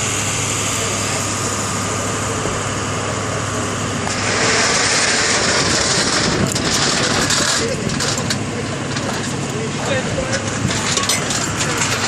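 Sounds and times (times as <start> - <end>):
road noise: 0.0 - 12.0
rush of noise: 0.0 - 12.0
vehicle engine humming: 0.0 - 12.0.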